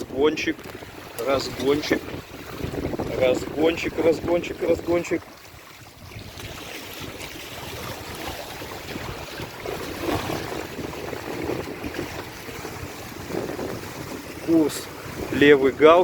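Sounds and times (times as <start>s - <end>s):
water splashing along hulls: 0.0s - 16.0s
wind on microphone: 0.0s - 16.0s.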